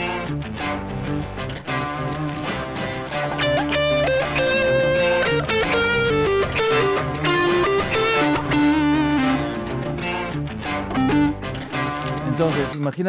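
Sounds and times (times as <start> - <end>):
electric guitar lead lines: 0.0 - 12.8
looped guitar and bass backing: 0.0 - 12.9.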